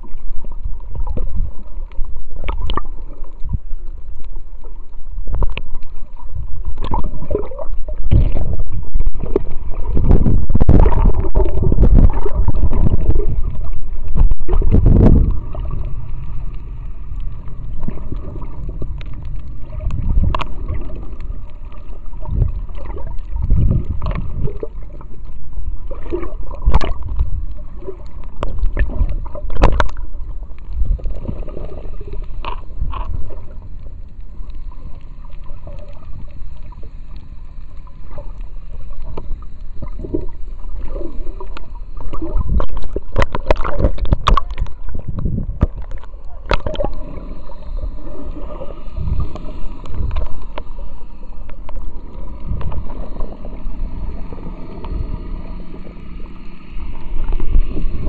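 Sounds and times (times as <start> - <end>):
underwater knocks and clicks: 0.0 - 36.8, 38.1 - 47.7, 49.0 - 50.8, 51.4 - 56.3
underwater rumbling water: 0.0 - 58.0.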